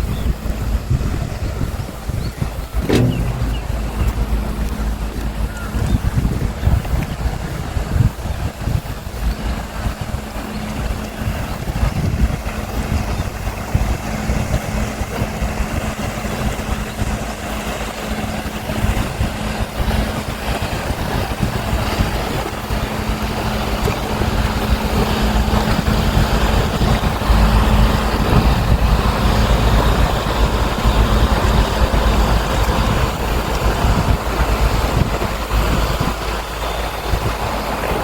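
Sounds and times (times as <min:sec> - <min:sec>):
steady low hum: 0:00.0 - 0:38.0
wind rumbling on microphone: 0:00.0 - 0:38.0.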